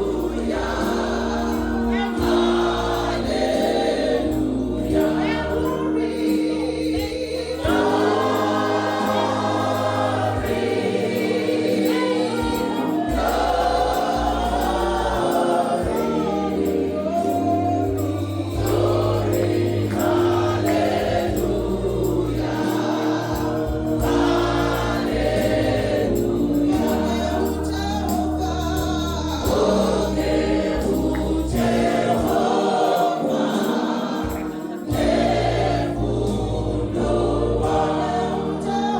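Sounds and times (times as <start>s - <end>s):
gospel choir singing: 0.0s - 38.9s
instrumental accompaniment: 0.0s - 38.9s.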